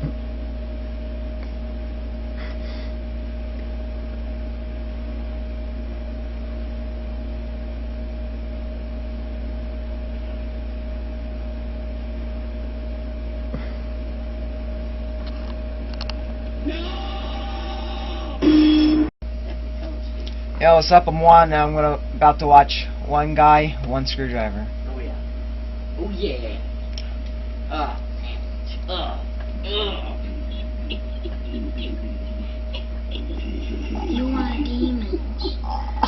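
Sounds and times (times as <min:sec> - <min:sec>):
low hum: 0:00.0 - 0:36.0.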